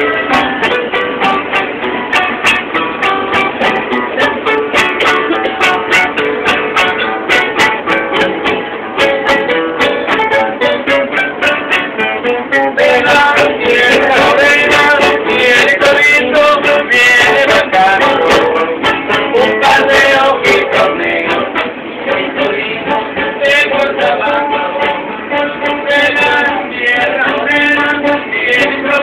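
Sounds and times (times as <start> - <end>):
strummed acoustic guitars: 0.0 - 29.0.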